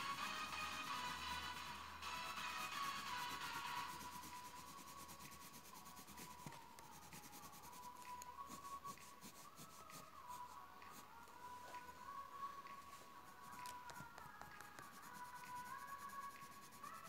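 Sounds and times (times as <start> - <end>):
pencil scratching on paper: 0.0 - 10.5, 13.3 - 17.0.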